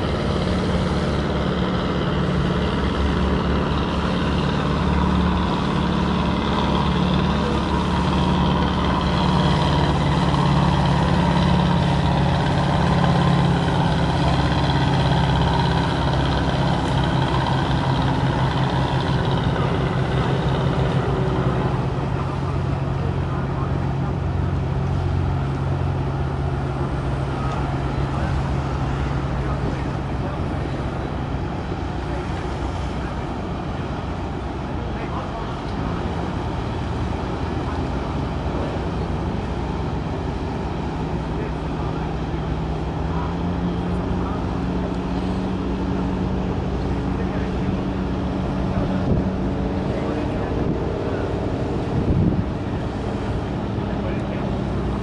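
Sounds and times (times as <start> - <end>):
boat diesel engine droning: 0.0 - 55.0
constant rushing noise: 0.0 - 55.0.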